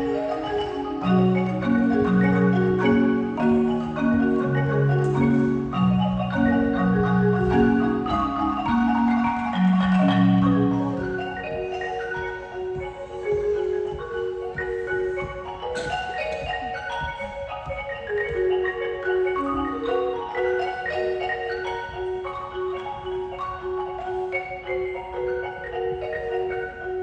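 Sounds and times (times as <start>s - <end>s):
marimba played with mallets: 0.0s - 27.0s.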